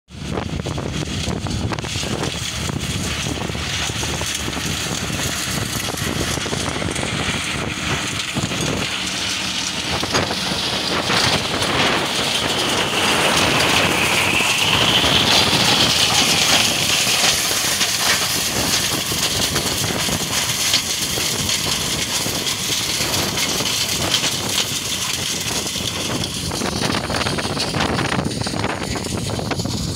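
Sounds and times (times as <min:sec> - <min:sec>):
flail mulcher shredding stalks: 0:00.1 - 0:29.9
high whine: 0:00.1 - 0:29.9
tractor engine: 0:00.1 - 0:29.9.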